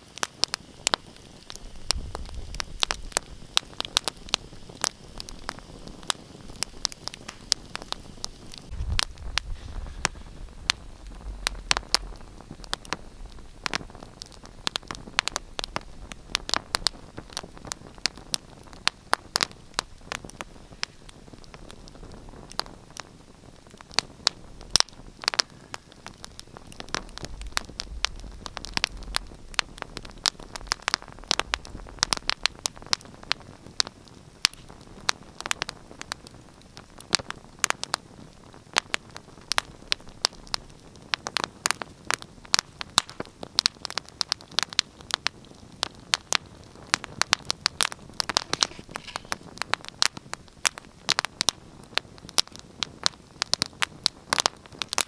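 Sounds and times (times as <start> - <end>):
soft hiss: 0.0 - 55.0
wood fire crackling: 0.0 - 55.0.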